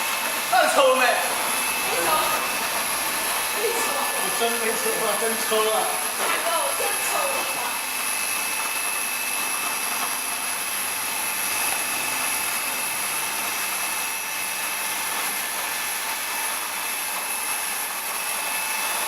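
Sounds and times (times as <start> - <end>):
washing machine hiss and whine: 0.0 - 19.0.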